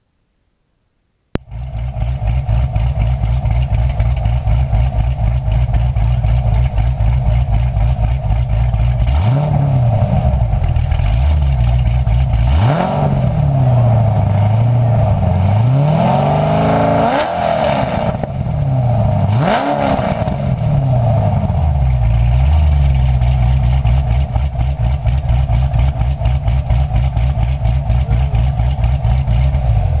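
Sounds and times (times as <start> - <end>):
car engine idling and revving: 1.3 - 30.0.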